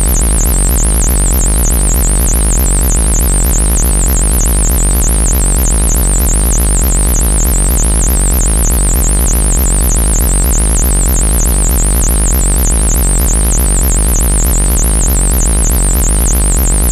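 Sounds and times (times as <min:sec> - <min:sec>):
harsh electronic buzz: 0:00.0 - 0:16.9
loud pulsing low hum: 0:00.0 - 0:16.9.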